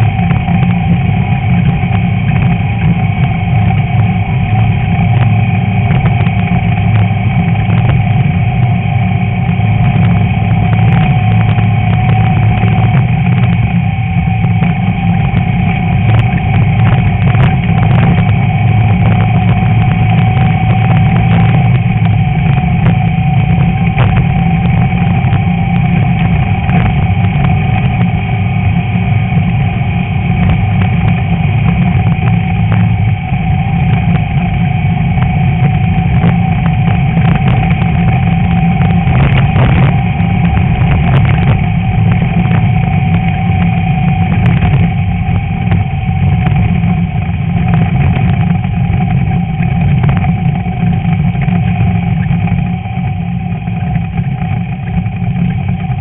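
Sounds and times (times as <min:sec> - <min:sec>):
car engine running under load: 0:00.0 - 0:56.0.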